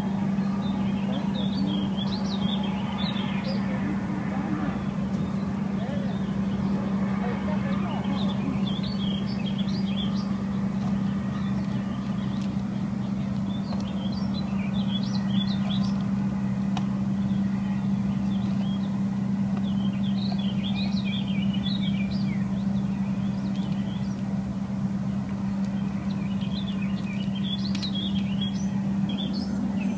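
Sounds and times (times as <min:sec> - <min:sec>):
birds chirping: 0:00.0 - 0:29.9
low mechanical hum: 0:00.0 - 0:29.9.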